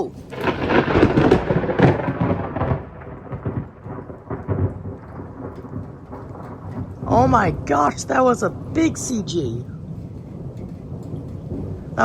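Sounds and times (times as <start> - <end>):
rain falling: 0.0 - 12.0
thunder crash and rumble: 0.0 - 12.0.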